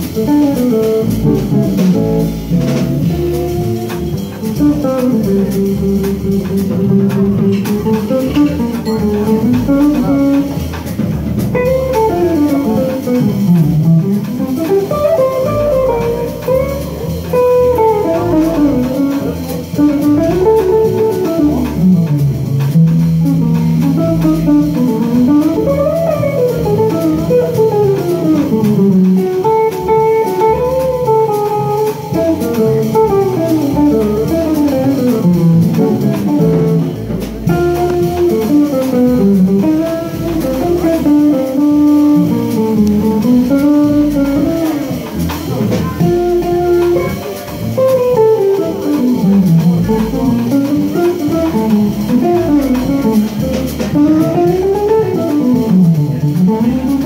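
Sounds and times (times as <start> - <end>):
drums: 0.0 - 57.0
electric guitar lines: 0.0 - 57.0
upright bass: 0.0 - 57.0.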